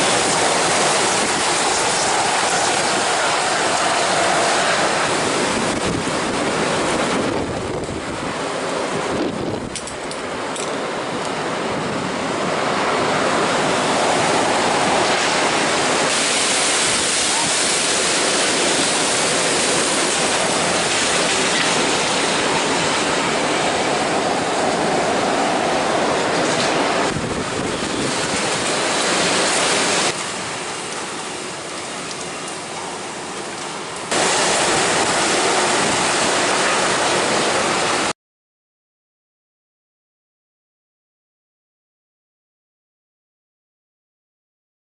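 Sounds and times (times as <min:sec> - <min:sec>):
strong wind rushing through trees: 0:00.0 - 0:38.1.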